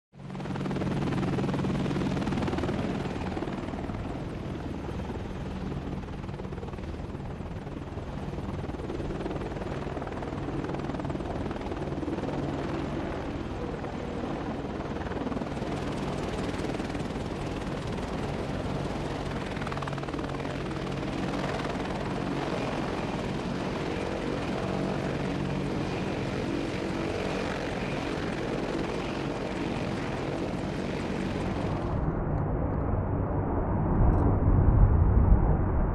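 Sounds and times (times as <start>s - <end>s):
helicopter rotor and engine drone: 0.2s - 33.3s.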